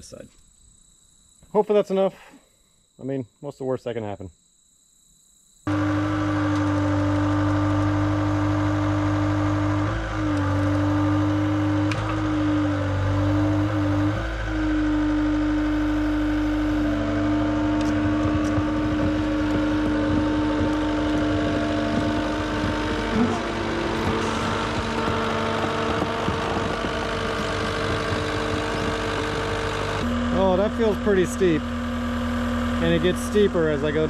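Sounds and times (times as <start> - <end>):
diesel engine running: 5.7 - 34.0.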